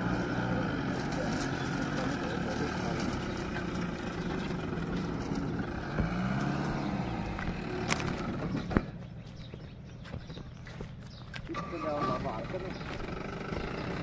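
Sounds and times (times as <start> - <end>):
diesel truck engine: 0.0 - 14.0.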